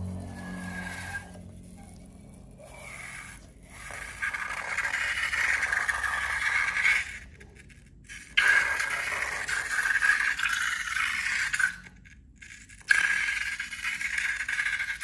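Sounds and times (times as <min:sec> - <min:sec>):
scraping and rubbing: 0:00.0 - 0:15.0.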